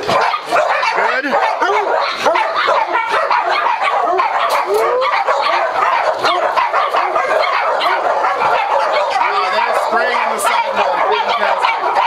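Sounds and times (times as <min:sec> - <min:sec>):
many dogs barking and yipping: 0:00.0 - 0:12.0.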